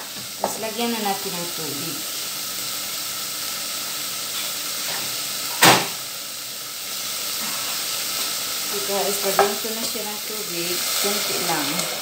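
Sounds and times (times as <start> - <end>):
chicken sizzling in pot: 0.0 - 12.0.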